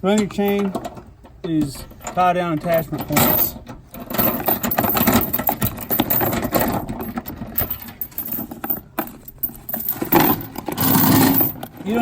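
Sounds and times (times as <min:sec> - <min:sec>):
metal chain rattling: 0:01.8 - 0:12.0.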